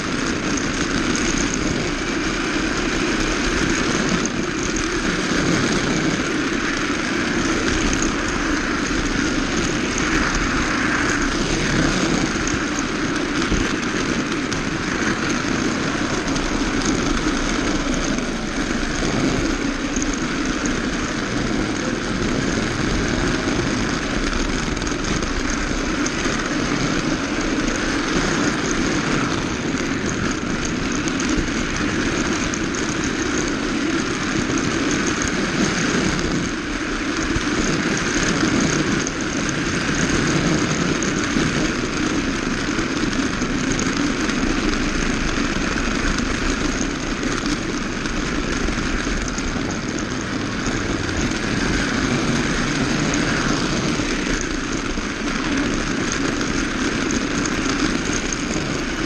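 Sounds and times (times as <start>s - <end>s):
toy car motor whirring: 0.0s - 59.0s.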